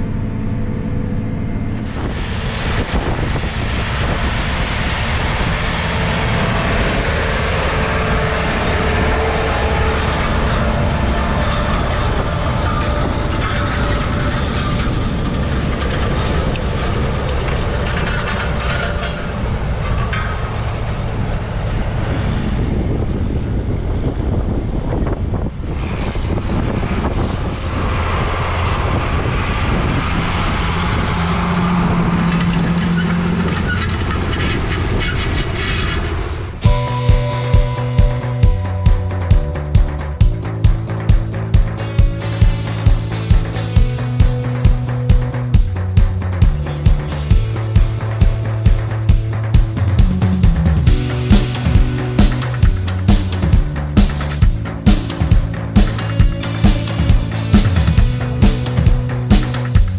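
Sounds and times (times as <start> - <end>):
heavy diesel machinery clattering: 0.0 - 59.9.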